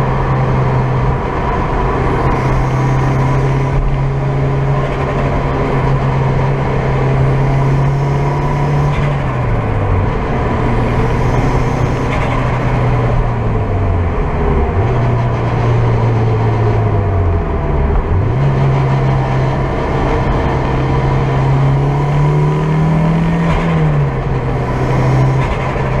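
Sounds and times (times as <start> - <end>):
car engine revving: 0.0 - 26.0
road noise: 0.0 - 26.0.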